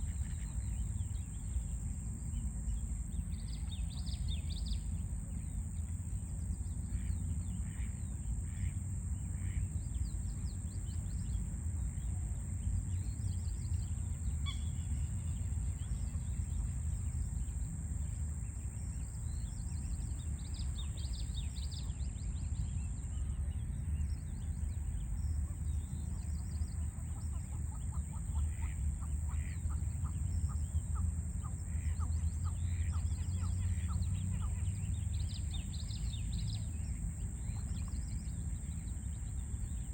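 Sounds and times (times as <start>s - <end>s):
distant city traffic rumble: 0.1s - 39.9s.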